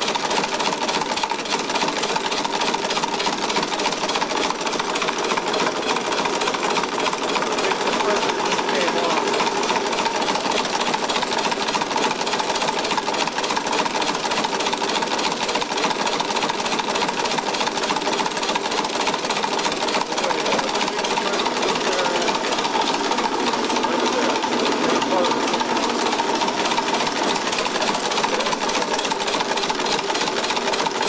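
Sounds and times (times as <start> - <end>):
compressed-air engine clattering: 0.0 - 31.0.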